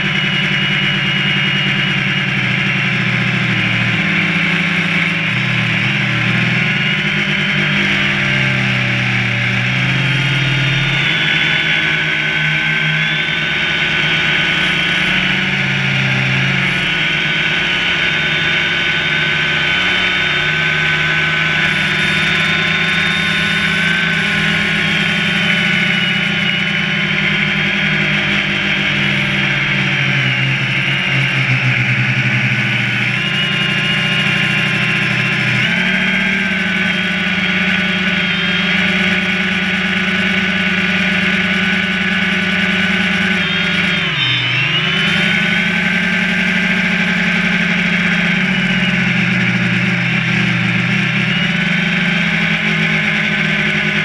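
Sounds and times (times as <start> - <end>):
drone propellers buzzing: 0.0 - 54.0.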